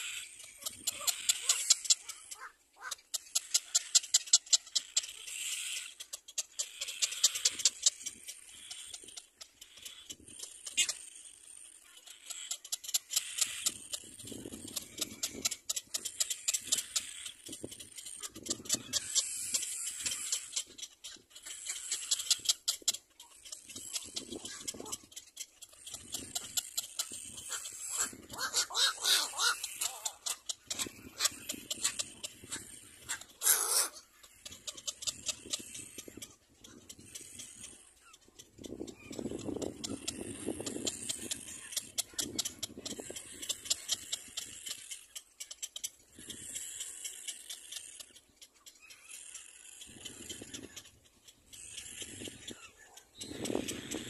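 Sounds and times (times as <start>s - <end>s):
chicks begging with high squeaks: 0.0s - 54.0s
rapid sharp clicking: 0.0s - 54.0s.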